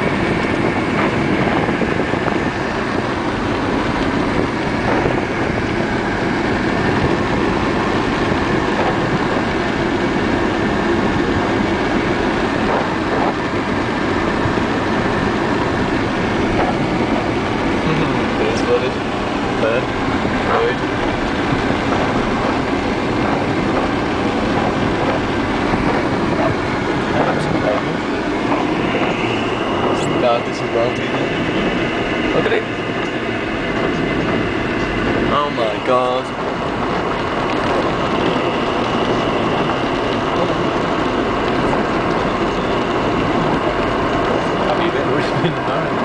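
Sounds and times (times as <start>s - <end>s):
car engine running: 0.0s - 46.0s
rain on windscreen: 0.0s - 46.0s.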